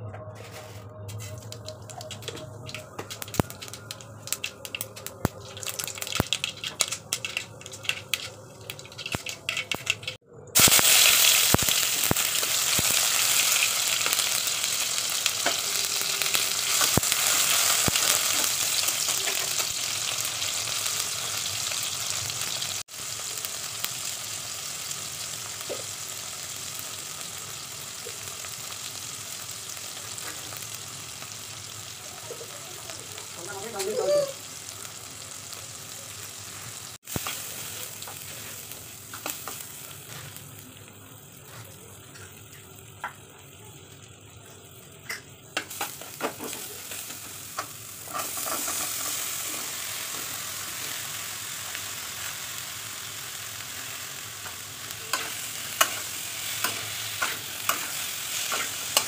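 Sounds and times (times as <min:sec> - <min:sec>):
seeds crackling in hot oil: 0:00.4 - 0:59.0
tomato sizzling in oil: 0:00.4 - 0:59.0.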